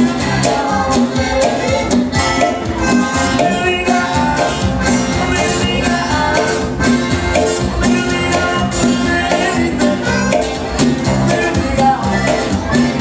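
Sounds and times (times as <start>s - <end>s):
live band dance music: 0.0s - 13.0s.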